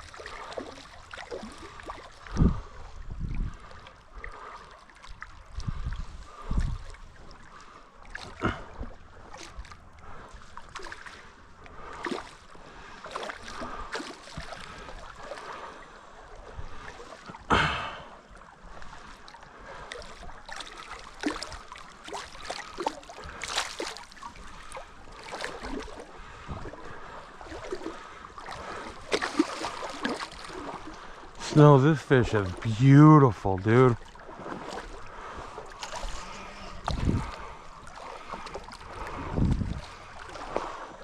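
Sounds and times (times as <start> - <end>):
running stream: 0.0 - 41.0
water splashing in a creek: 0.0 - 41.0.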